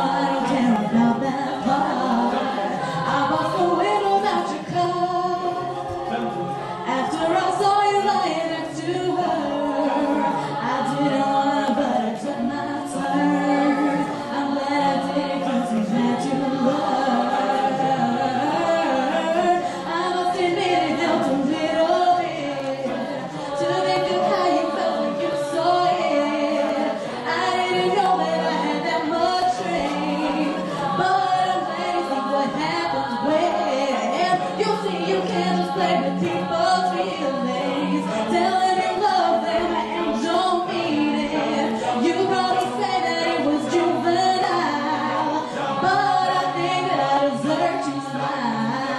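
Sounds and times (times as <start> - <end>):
a cappella group singing in harmony: 0.0 - 48.9.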